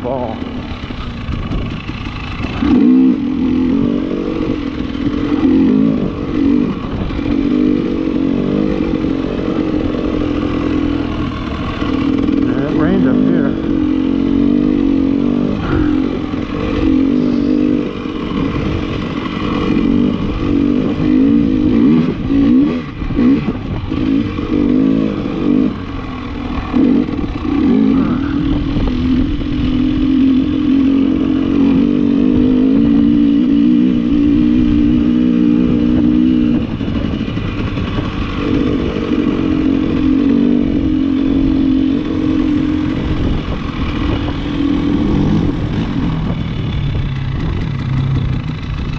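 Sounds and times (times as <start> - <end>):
dirt bike engine running: 0.0 - 48.9.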